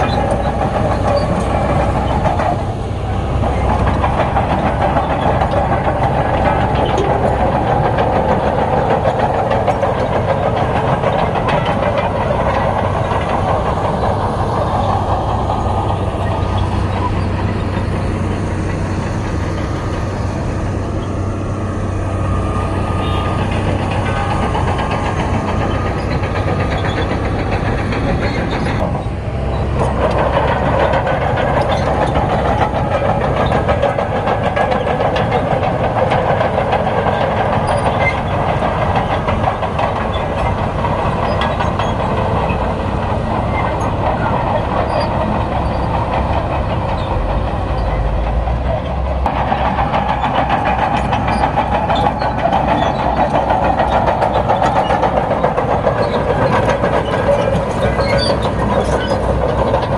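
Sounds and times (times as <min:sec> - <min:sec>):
bulldozer diesel engine: 0:00.0 - 0:59.9
steel tracks clanking: 0:00.0 - 0:59.9.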